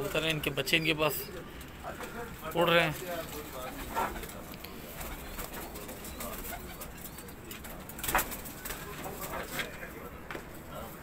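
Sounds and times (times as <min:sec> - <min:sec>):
pigeons cooing: 0:00.0 - 0:09.6.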